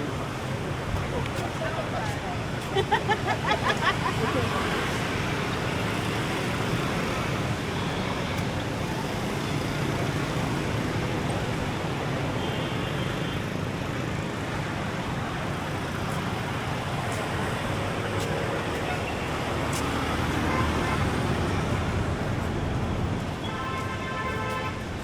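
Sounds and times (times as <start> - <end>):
road traffic hum: 0.0 - 25.0.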